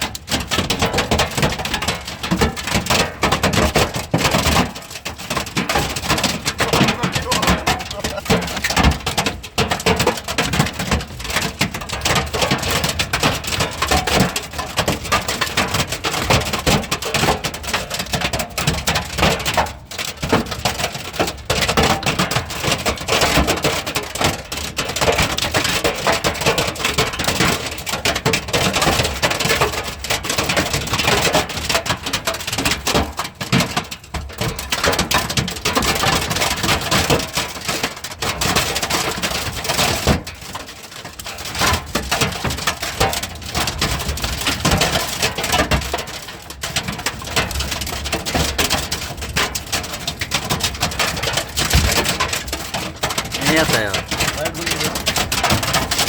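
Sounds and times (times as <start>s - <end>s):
hail clattering on hard surfaces: 0.0s - 56.0s.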